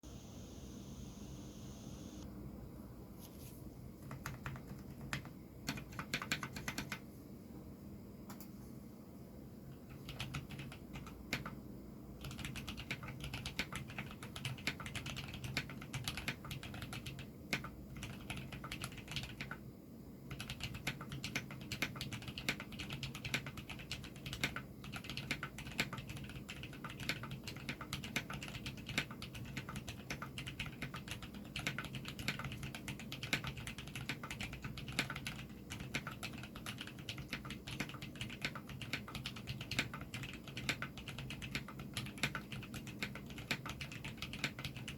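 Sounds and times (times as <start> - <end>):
steady low hum: 0.0 - 44.9
mechanical keyboard typing: 4.0 - 7.0, 9.8 - 11.6, 12.2 - 19.6, 20.3 - 44.9.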